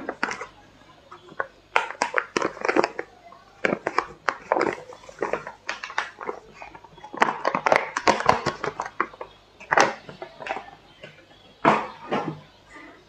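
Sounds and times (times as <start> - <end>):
foil packet crinkling: 0.0 - 11.0.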